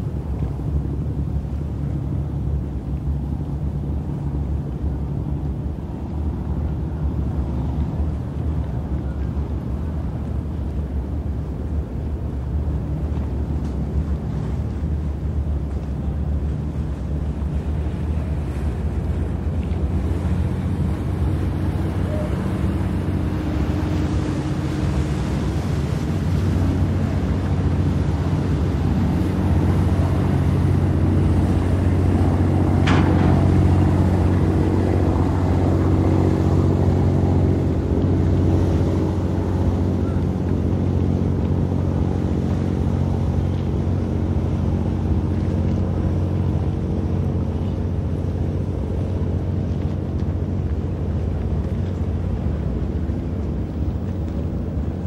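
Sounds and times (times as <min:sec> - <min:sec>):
boat engine hum: 0:00.0 - 0:55.0
wind: 0:00.0 - 0:55.0.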